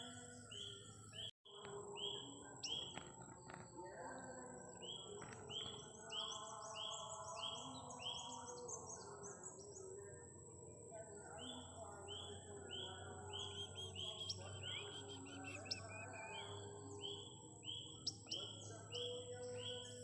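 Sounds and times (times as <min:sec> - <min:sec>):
high bird twittering: 0:00.0 - 0:10.0, 0:11.3 - 0:20.0
bird chirping: 0:00.0 - 0:20.0.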